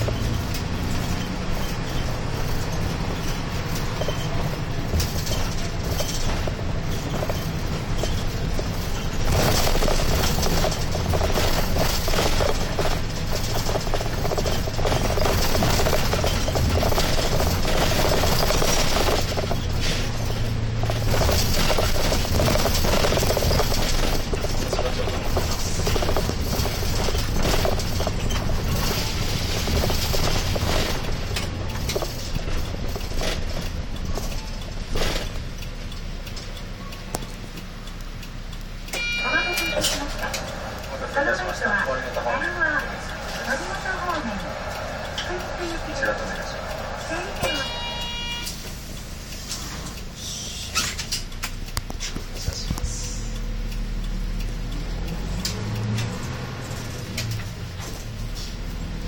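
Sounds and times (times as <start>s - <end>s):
bus engine hum: 0.0s - 59.0s
road and tyre noise: 0.0s - 59.0s.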